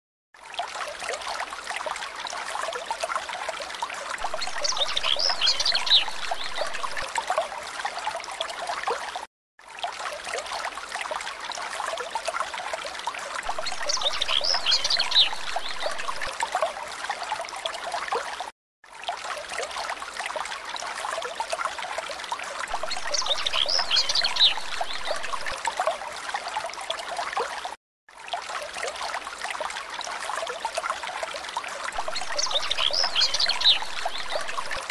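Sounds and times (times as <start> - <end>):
trickling stream water: 0.3 - 34.9.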